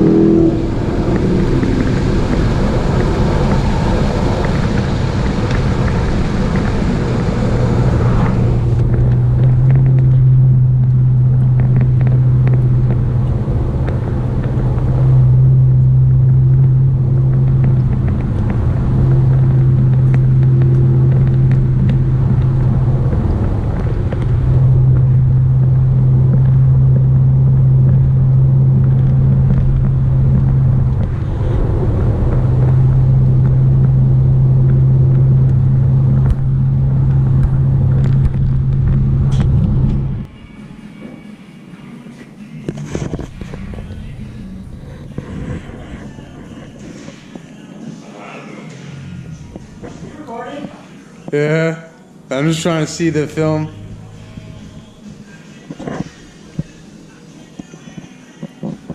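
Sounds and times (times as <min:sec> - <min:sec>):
car engine drone: 0:00.0 - 0:58.9.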